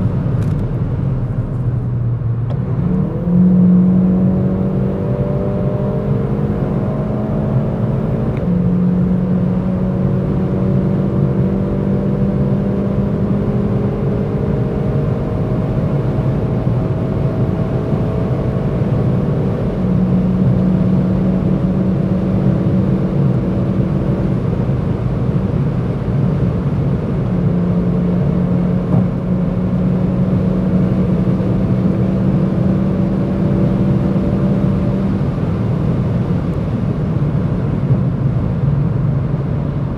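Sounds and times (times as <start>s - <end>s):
car engine pulling hard: 0.0s - 39.9s
wind and road noise: 0.0s - 39.9s.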